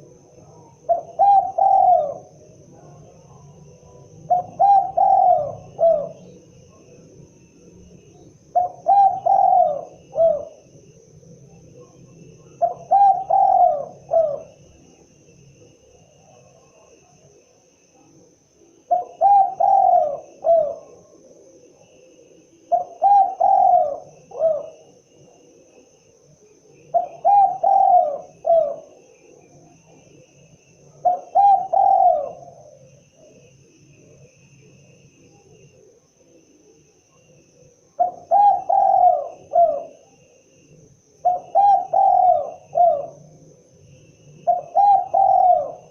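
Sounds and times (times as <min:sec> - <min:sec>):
dove cooing: 0:00.0 - 0:07.2, 0:08.5 - 0:11.1, 0:11.7 - 0:15.0, 0:18.7 - 0:34.4, 0:35.7 - 0:45.9
faint insect chirring: 0:00.0 - 0:45.9.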